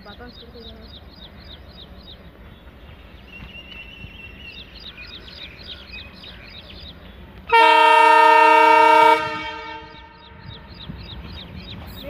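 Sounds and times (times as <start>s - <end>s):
bird chirping: 0.0s - 7.5s, 9.6s - 12.0s.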